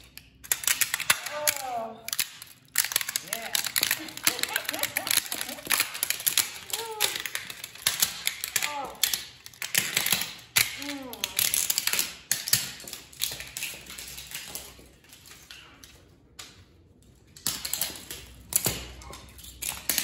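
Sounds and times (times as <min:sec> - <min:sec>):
plastic toys cracking underfoot: 0:00.0 - 0:20.0.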